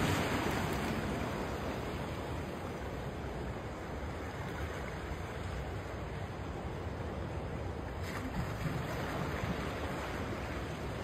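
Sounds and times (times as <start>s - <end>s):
waves washing among rocks: 0.0s - 11.0s.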